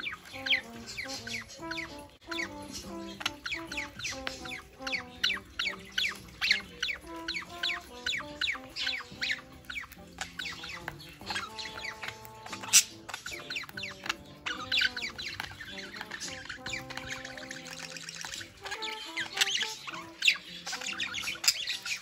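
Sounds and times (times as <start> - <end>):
budgerigars chirping: 0.0 - 22.0
soft background music: 0.0 - 22.0.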